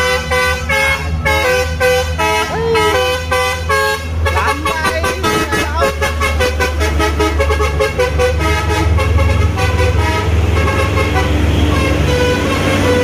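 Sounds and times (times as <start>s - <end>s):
truck multi-tone horn playing a tune: 0.0s - 13.0s.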